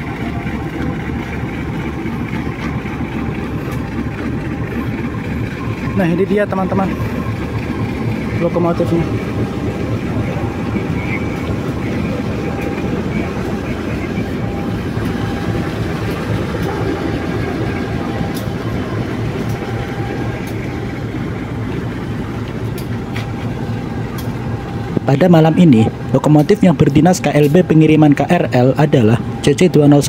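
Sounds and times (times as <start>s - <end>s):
faint hum: 0.0s - 30.0s
locomotive diesel engine idling: 0.0s - 30.0s.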